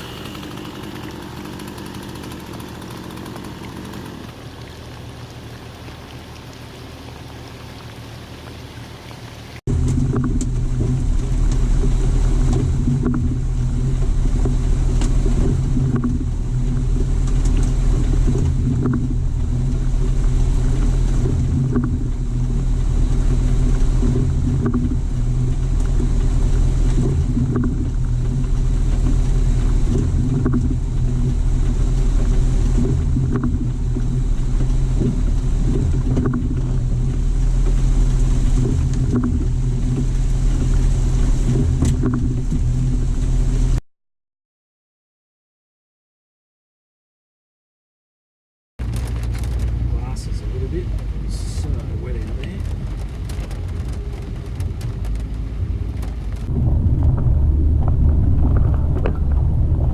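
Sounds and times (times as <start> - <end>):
car engine drone: 0.0 - 43.8, 48.8 - 59.9
road and tyre noise: 0.0 - 43.8, 48.8 - 59.9.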